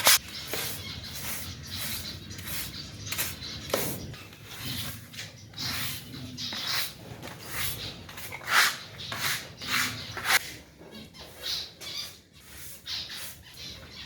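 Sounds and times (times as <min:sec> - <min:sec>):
scrubbing bird cage trays: 0:00.0 - 0:10.6, 0:11.2 - 0:14.0.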